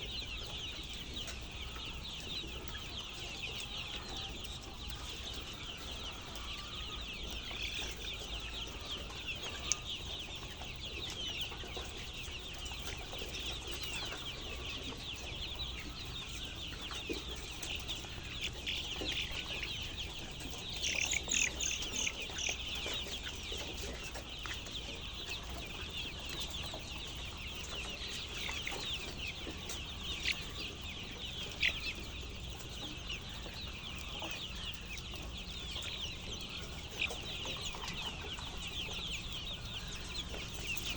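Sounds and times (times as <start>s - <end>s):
chickens peeping and clucking: 0.0s - 40.9s.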